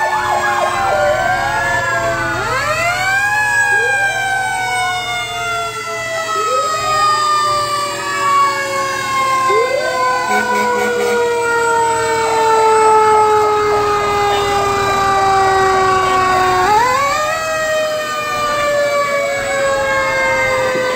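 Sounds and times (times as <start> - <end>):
fire truck siren wailing: 0.0 - 20.9.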